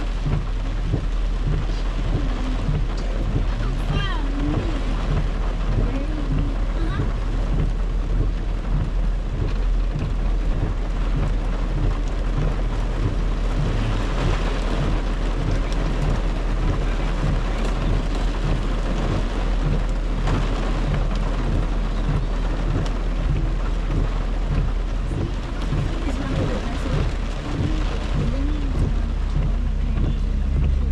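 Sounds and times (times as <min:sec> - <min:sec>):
heavy rain on car windshield: 0:00.0 - 0:30.9
low rumble: 0:00.0 - 0:30.9.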